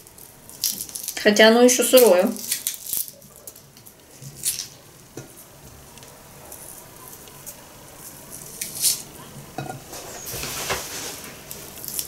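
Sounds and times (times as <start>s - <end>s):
papery vegetable skin crackling: 0.0s - 12.0s.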